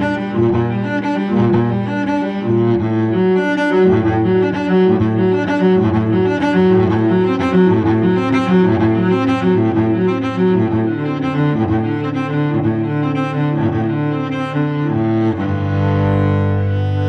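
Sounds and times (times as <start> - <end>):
bowed cello: 0.0 - 17.0.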